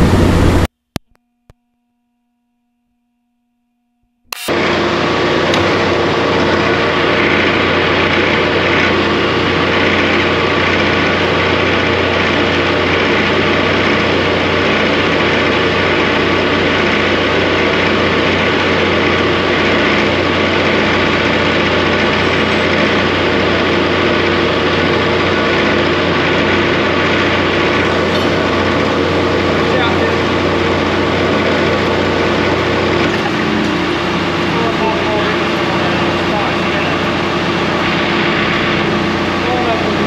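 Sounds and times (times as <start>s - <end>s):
diesel engine running: 0.0s - 0.7s, 4.3s - 40.0s
wire rope spooling onto winch drum: 4.3s - 40.0s.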